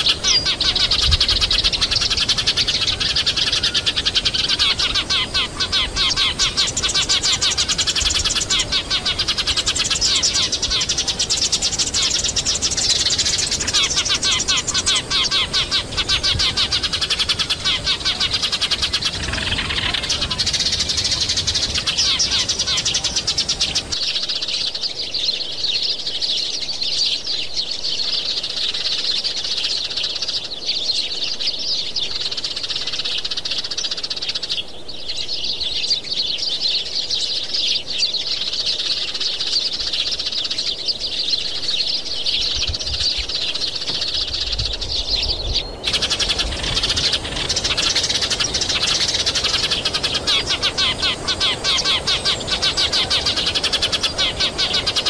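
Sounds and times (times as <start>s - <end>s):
birds chirping rapidly: 0.0s - 55.0s.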